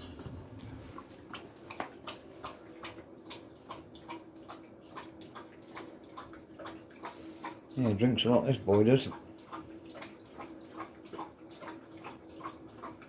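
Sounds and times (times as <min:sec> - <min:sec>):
dog lapping water from metal bowl: 0:00.0 - 0:13.0.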